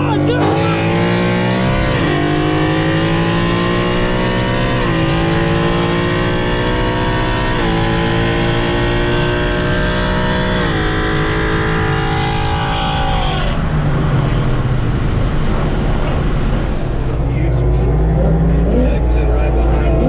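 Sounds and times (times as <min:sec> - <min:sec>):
car engine revving: 0:00.0 - 0:20.0
road noise: 0:00.0 - 0:20.0.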